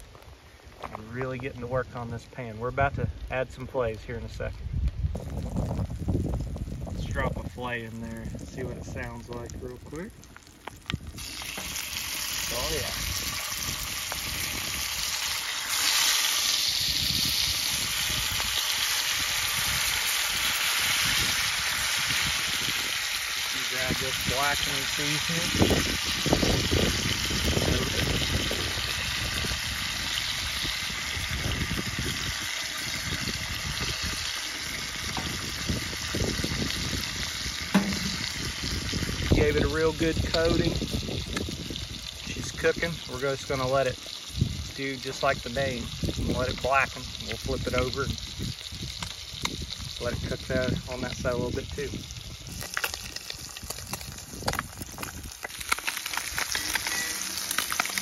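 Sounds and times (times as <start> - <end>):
crackling pops and spits: 4.4 - 58.0
fish sizzling in butter: 4.5 - 58.0.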